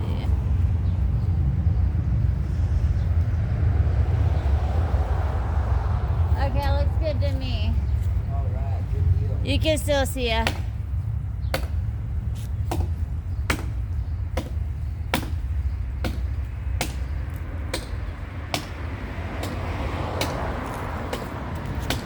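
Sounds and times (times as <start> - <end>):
continuous low rumble: 0.0 - 22.0.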